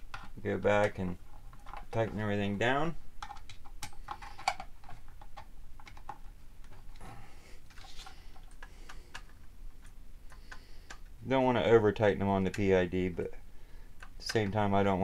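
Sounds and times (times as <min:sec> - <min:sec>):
rustling of plastic parts and wires: 0:00.0 - 0:15.0.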